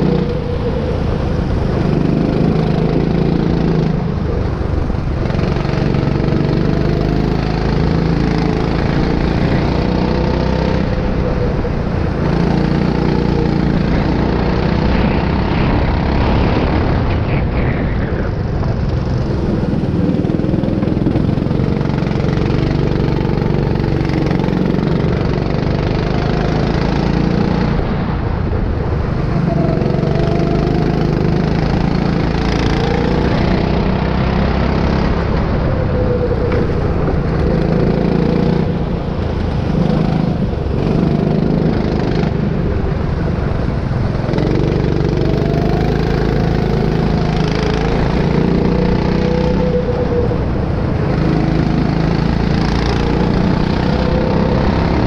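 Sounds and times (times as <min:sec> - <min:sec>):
go-kart engine racing: 0:00.0 - 0:55.0.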